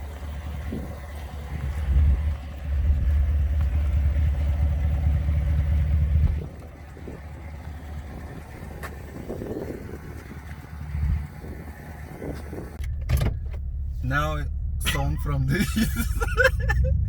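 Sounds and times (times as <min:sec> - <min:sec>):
car exhaust deep rumble: 0:00.0 - 0:17.0.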